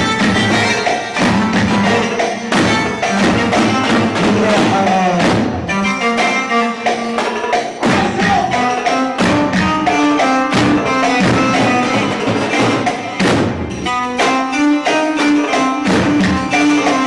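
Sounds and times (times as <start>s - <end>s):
drums and percussion beat: 0.0s - 17.0s
melody instrument: 0.0s - 17.0s.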